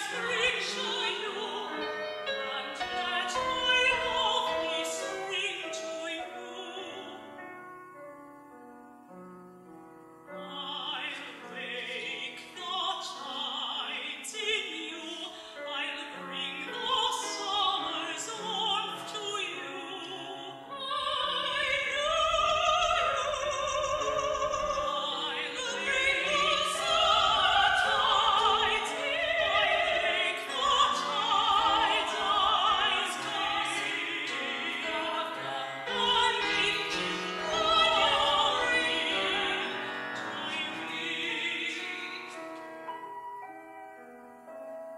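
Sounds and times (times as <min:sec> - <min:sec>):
soprano singing: 0:00.0 - 0:08.3, 0:10.2 - 0:44.7
piano accompaniment: 0:00.0 - 0:44.9.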